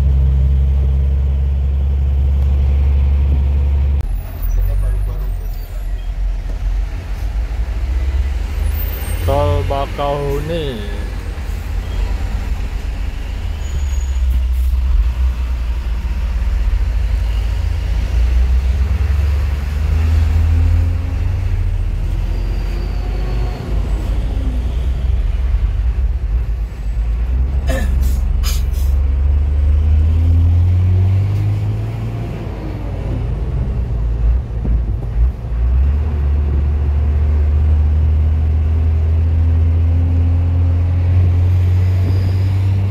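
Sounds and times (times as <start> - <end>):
truck diesel engine rumble: 0.0 - 42.9.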